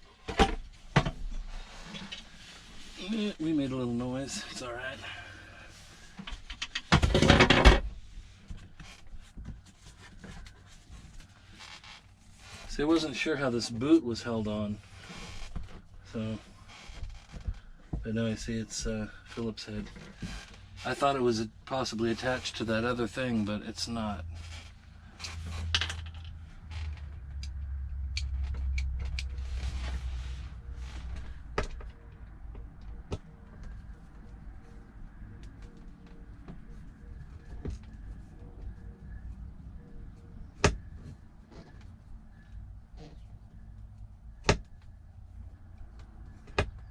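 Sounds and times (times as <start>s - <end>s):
creaks and handling noise: 0.0s - 46.9s.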